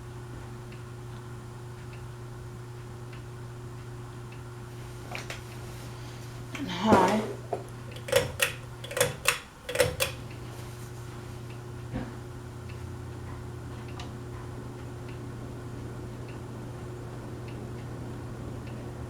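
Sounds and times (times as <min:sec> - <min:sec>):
ceiling fan motor humming: 0:00.0 - 0:19.0.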